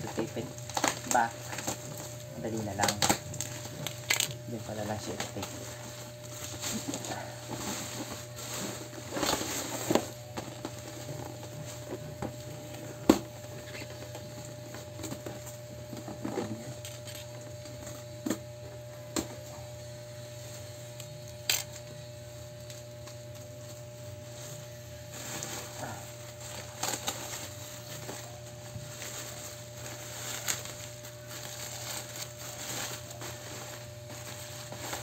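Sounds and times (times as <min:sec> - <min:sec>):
bubble wrap rustling: 0:00.0 - 0:18.2, 0:21.5 - 0:35.0
steady low hum: 0:00.0 - 0:35.0.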